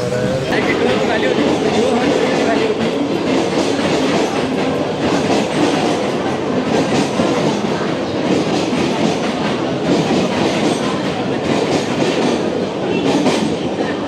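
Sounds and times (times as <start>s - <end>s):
trains rumbling: 0.0s - 14.0s.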